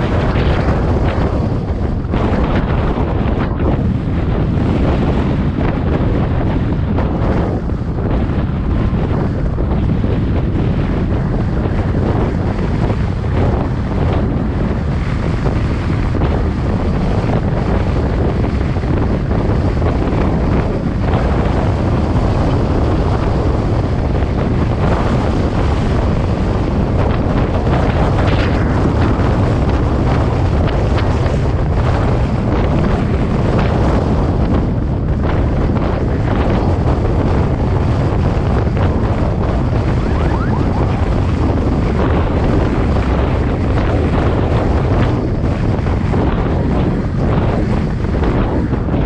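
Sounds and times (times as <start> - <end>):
car driving rumble: 0.0 - 49.0
wind buffeting microphone: 0.0 - 49.0.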